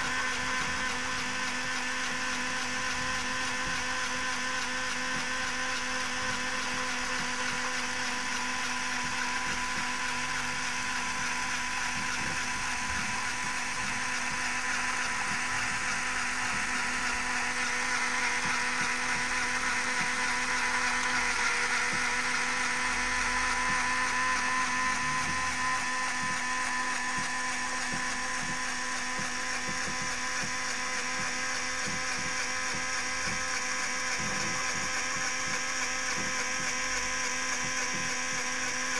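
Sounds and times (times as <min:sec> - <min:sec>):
small electric motor whine: 0:00.0 - 0:38.9.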